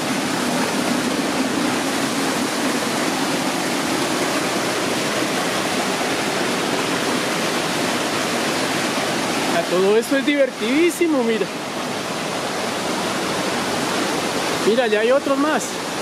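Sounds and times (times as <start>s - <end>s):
creek water over rocks: 0.0s - 16.0s.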